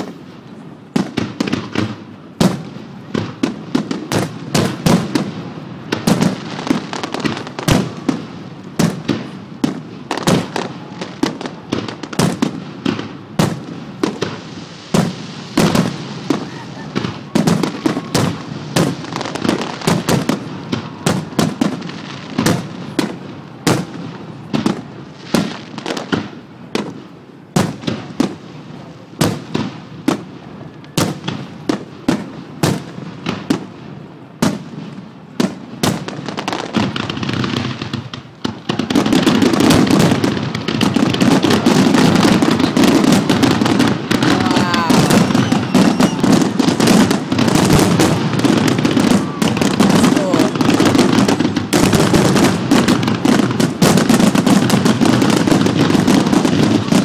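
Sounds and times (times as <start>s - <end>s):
fireworks bursting: 0.0s - 57.0s.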